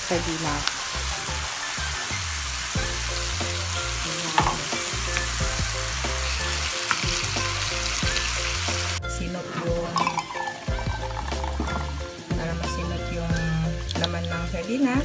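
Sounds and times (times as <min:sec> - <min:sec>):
background music with bass: 0:00.0 - 0:15.0
food sizzling in a frying pan: 0:00.0 - 0:15.0.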